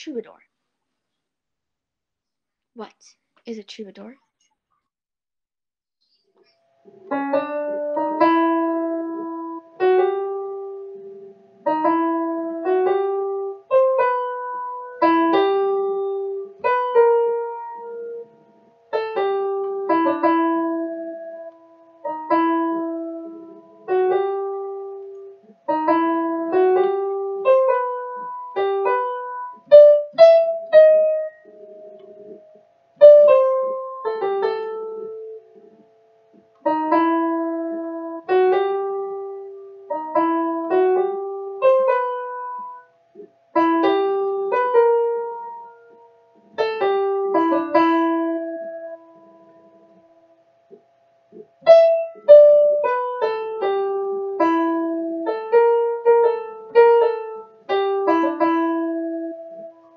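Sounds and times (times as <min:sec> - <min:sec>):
keyboard piano melody: 0:06.9 - 0:59.9.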